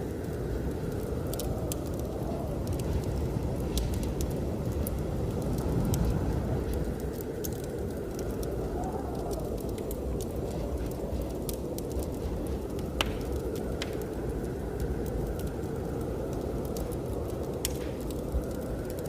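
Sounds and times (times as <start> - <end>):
blizzard wind rushing: 0.0 - 19.0
wood fire crackling and popping: 0.0 - 19.0.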